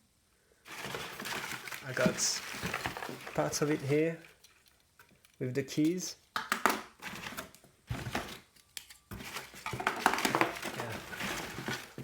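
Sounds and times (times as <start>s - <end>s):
crinkling: 0.6s - 6.2s, 6.9s - 12.0s
plastic parts clicking and rattling: 0.7s - 6.0s, 6.6s - 12.0s.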